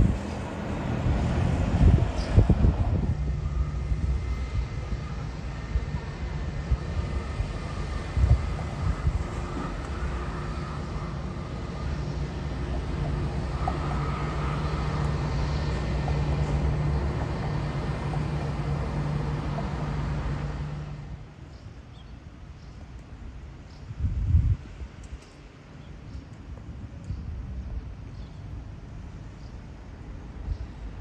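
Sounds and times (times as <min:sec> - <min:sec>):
airliner engines running: 0:00.0 - 0:31.0.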